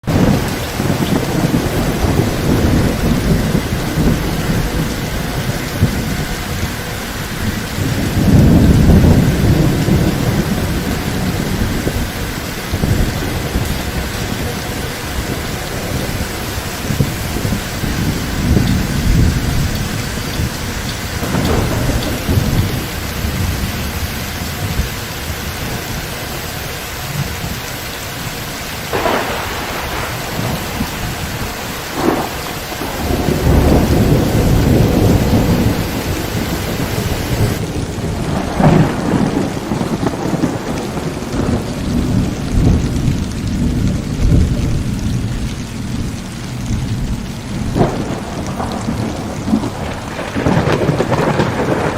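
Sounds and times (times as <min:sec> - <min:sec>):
sharp thunder cracks: 0:00.0 - 0:06.8, 0:07.4 - 0:24.9, 0:28.9 - 0:45.3, 0:46.8 - 0:51.9
heavy rain falling: 0:00.0 - 0:51.9
rolling thunder: 0:00.0 - 0:51.9.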